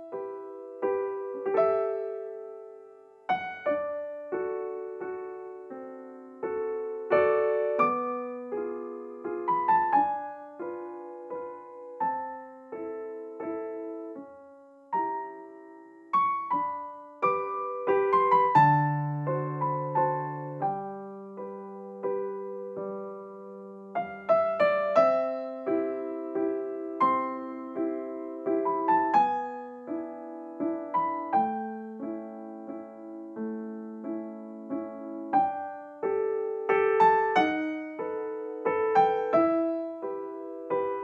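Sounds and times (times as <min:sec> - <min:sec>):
gentle piano music: 0:00.0 - 0:41.0.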